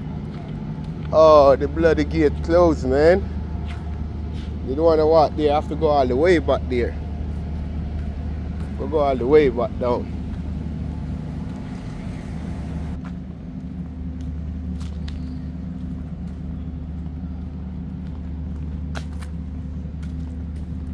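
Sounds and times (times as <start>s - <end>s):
engine humming steadily: 0.0s - 20.9s.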